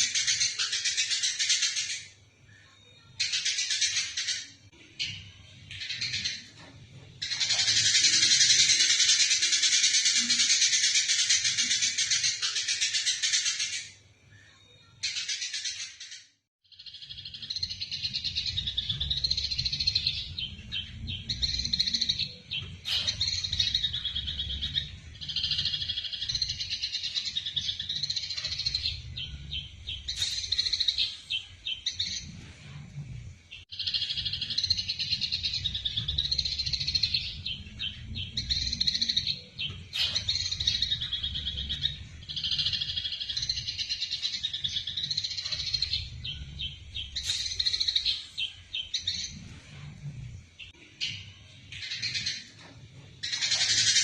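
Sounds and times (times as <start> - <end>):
sparrows chirping: 0.0 - 2.2, 3.1 - 54.0.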